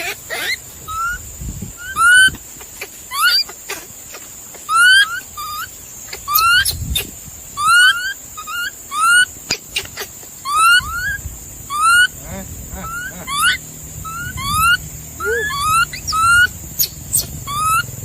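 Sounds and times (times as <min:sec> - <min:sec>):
animal squeaky calls: 0:00.0 - 0:01.2, 0:01.8 - 0:18.0.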